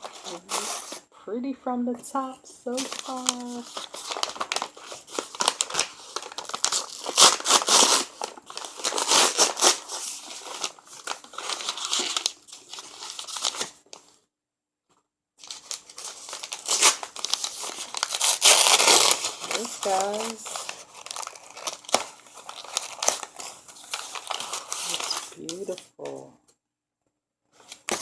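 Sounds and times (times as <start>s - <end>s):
packaging crinkling and tearing: 0.0s - 1.0s, 2.7s - 14.1s, 15.4s - 25.9s, 27.6s - 28.0s.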